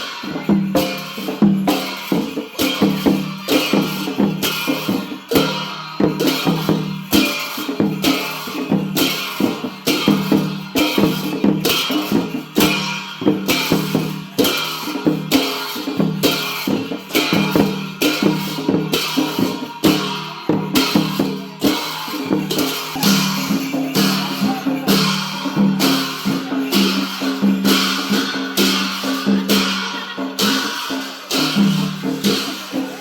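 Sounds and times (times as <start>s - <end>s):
cymbal crashes: 0.0s - 33.0s
drums and cymbals dance music: 0.0s - 33.0s.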